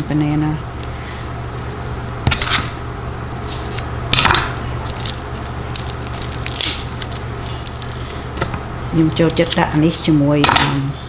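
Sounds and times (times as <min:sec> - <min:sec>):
foil wrapping crinkling: 0:00.0 - 0:10.2
steady low hum: 0:00.0 - 0:11.0.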